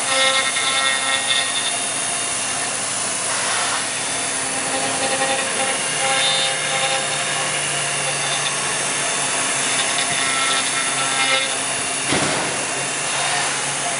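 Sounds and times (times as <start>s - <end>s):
router spindle hum and whine: 0.0s - 13.9s.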